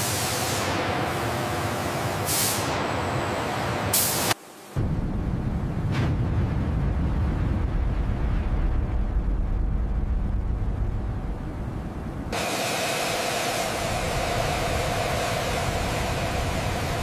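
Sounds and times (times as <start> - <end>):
jet engine rumble and hiss: 0.0 - 17.0.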